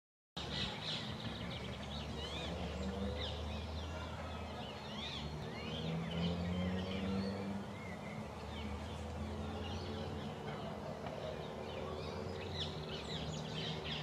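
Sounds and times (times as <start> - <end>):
birds calling: 0.4 - 14.0.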